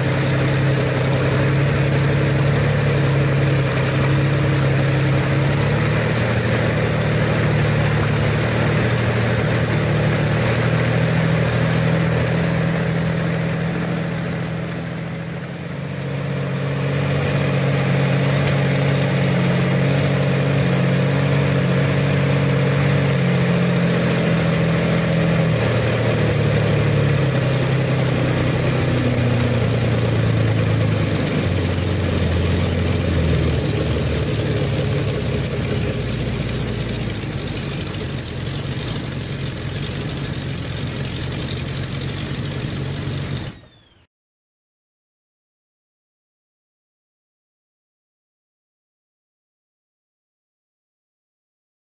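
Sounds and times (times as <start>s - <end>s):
engine running at low speed: 0.0s - 44.1s.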